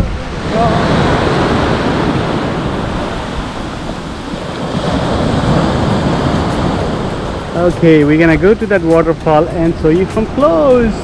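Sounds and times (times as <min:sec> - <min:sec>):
ocean surf washing ashore: 0:00.0 - 0:11.0
wind rumbling on microphone: 0:00.0 - 0:11.0.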